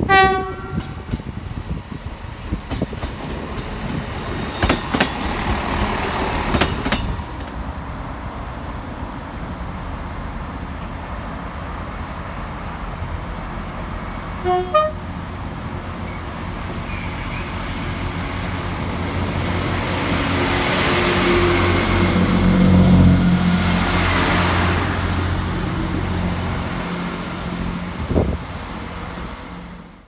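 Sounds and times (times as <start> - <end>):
train passing: 0.0 - 30.0.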